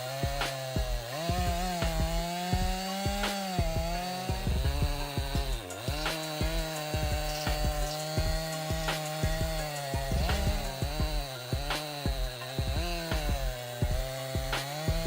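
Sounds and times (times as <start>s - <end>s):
chainsaw engine running: 0.0s - 15.0s
short low thumps: 0.3s - 15.0s.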